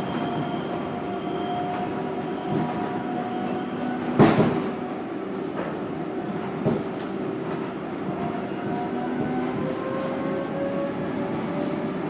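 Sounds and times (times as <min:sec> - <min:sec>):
subway car rumbling on tracks: 0:00.0 - 0:12.0.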